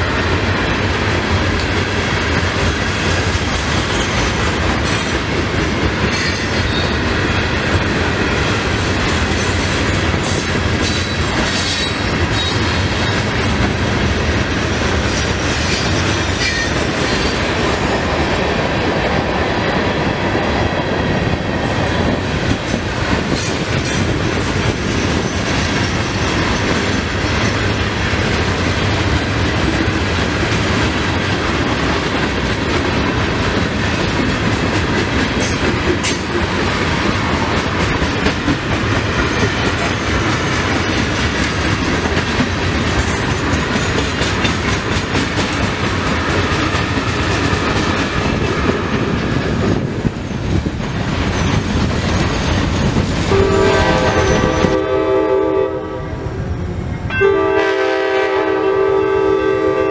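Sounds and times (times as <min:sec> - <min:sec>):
clickety-clack over rail joints: 0:00.0 - 0:54.8
freight train wheels rumbling: 0:00.0 - 0:59.9.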